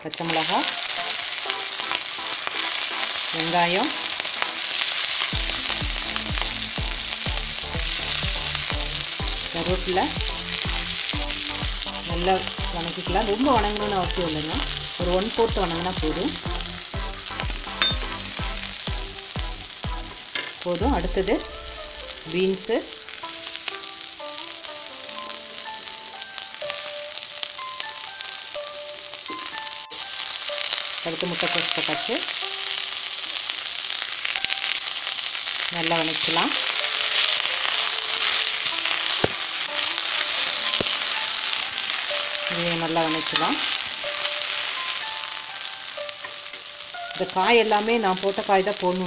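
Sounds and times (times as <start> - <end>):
food sizzling in hot oil: 0.0 - 49.0
soft instrumental music: 0.0 - 49.0.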